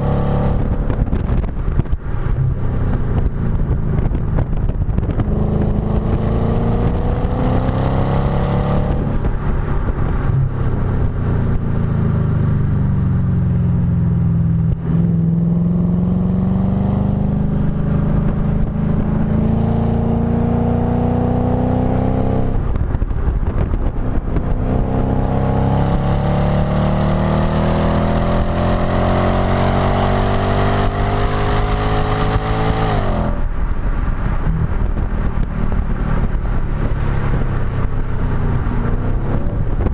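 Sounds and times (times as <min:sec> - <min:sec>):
car engine accelerating hard: 0:03.2 - 0:10.8, 0:14.5 - 0:39.9.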